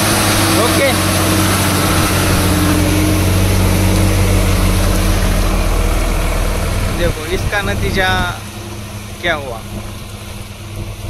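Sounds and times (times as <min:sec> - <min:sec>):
truck diesel engine droning: 0:00.0 - 0:11.0.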